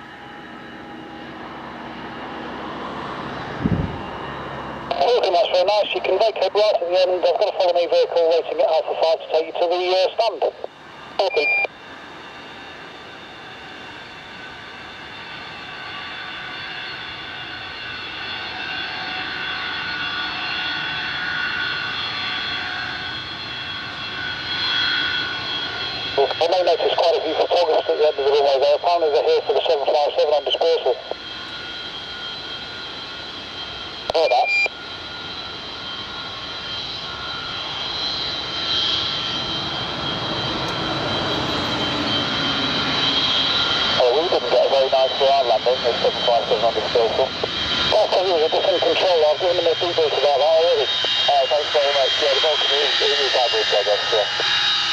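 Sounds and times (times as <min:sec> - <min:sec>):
jet engines whining: 0:00.0 - 0:54.9.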